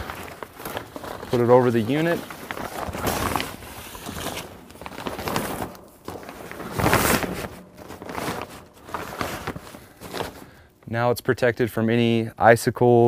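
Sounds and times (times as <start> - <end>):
plastic tarp rustling: 0.0 - 10.8.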